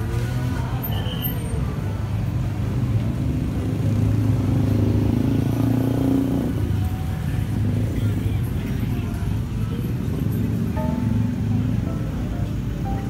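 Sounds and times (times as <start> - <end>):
car and motorbike engines: 0.0 - 13.0.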